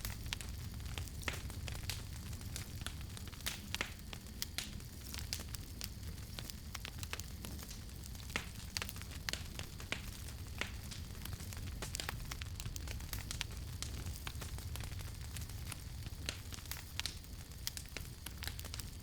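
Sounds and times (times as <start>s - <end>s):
fire popping: 0.0s - 19.0s
low rumble of flame: 0.0s - 19.0s
wood fire crackling: 0.0s - 19.0s.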